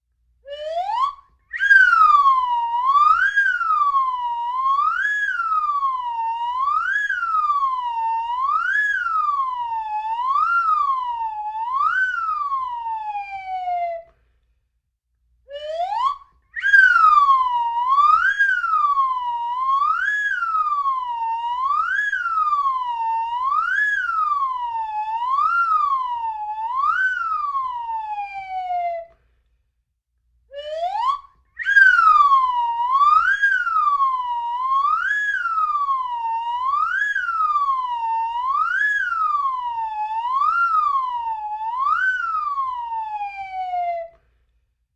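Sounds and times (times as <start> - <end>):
slide whistle: 0.4 - 14.2, 15.5 - 29.2, 30.5 - 44.3.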